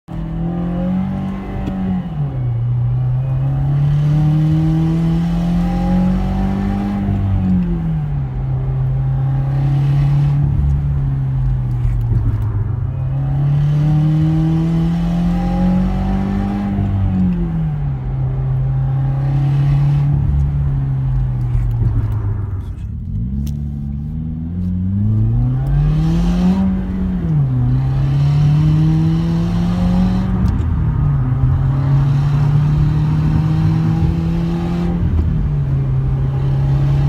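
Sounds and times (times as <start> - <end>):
car engine accelerating hard: 0.1 - 37.0.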